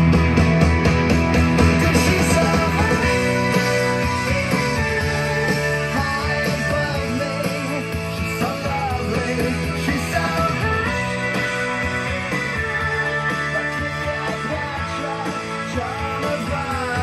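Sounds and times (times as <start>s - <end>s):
rock music over speakers: 0.0s - 17.0s.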